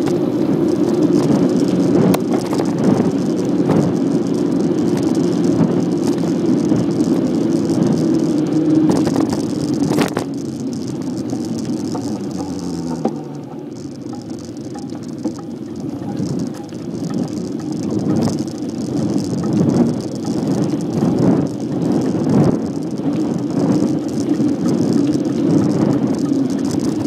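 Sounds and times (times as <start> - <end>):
bicycle tyres rumbling on asphalt: 0.0 - 27.0
bike rattling: 0.0 - 27.0.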